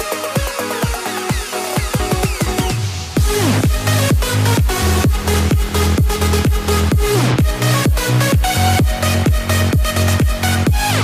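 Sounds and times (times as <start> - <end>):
electronic dance music: 0.0 - 11.0
kick drum beat: 0.0 - 11.0.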